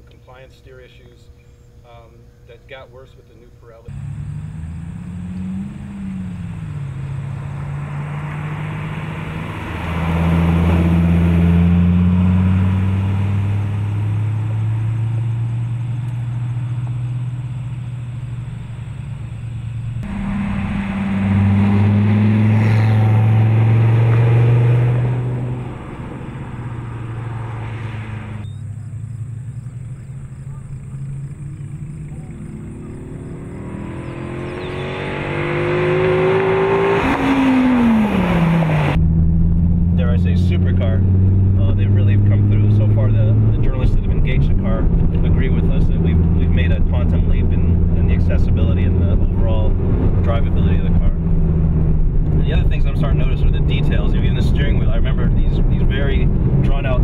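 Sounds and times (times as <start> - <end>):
car engine running under way: 3.9 - 57.0.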